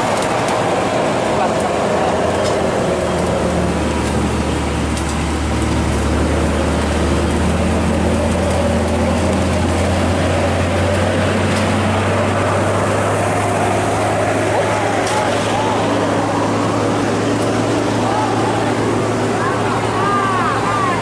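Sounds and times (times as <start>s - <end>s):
engine drone: 0.0s - 21.0s
road noise: 0.0s - 21.0s.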